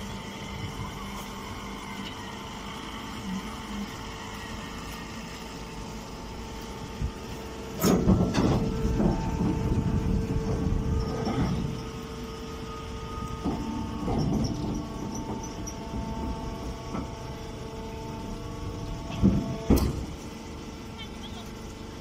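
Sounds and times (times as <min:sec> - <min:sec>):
baler motor and pump humming: 0:00.0 - 0:22.0.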